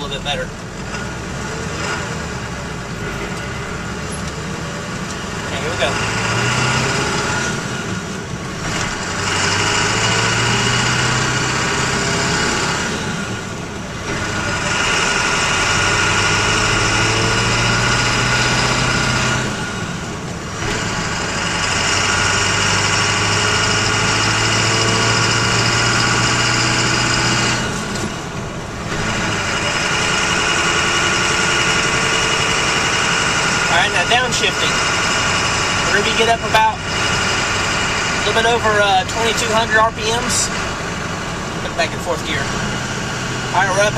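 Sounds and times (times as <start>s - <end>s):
diesel truck engine accelerating: 0.0s - 43.9s.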